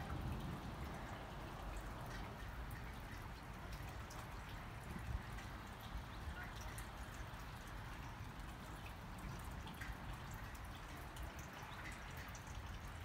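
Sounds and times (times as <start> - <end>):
drips ticking: 0.0 - 13.0.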